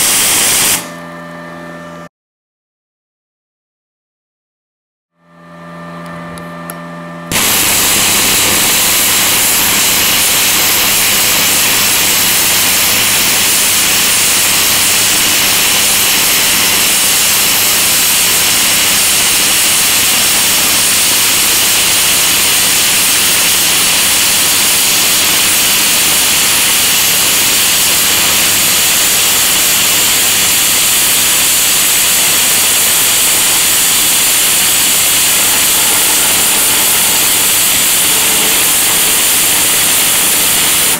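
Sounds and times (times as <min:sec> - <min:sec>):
welding arc hissing: 0:00.0 - 0:00.9, 0:07.3 - 0:40.9
welder low hum: 0:00.0 - 0:02.1, 0:05.2 - 0:40.9.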